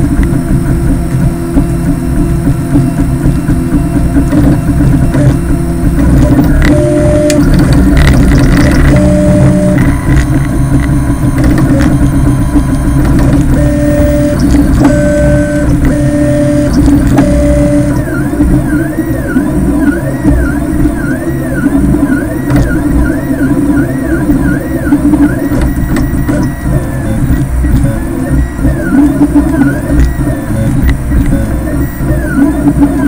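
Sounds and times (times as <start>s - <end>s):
stepper motors whining: 0.0s - 33.0s.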